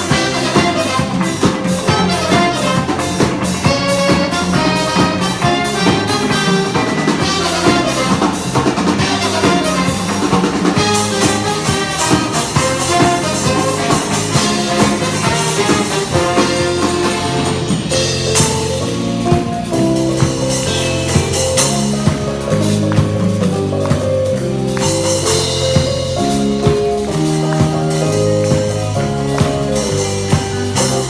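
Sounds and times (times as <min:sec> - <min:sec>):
band music: 0:00.0 - 0:31.0
drum kit beat: 0:00.0 - 0:31.0.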